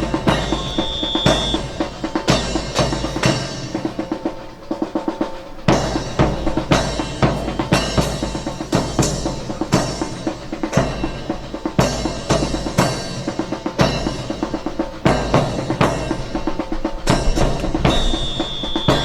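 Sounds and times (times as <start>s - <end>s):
bass drum and cymbal hits: 0.0s - 19.0s
snare drum rolls: 0.0s - 19.0s.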